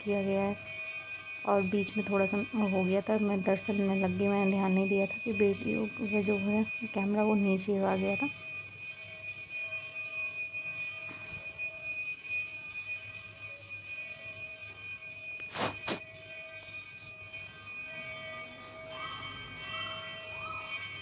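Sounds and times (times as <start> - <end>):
temple bells ringing: 0.0 - 21.0.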